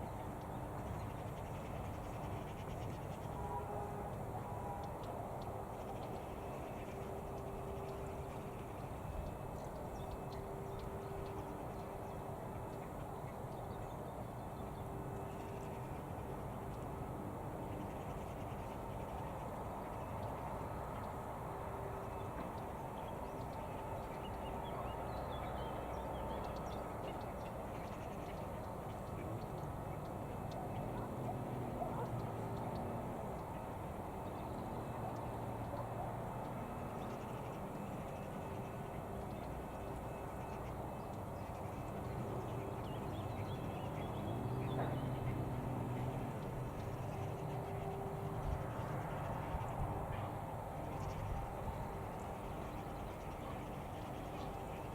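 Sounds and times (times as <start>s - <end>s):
low steady drone: 0.0s - 54.9s.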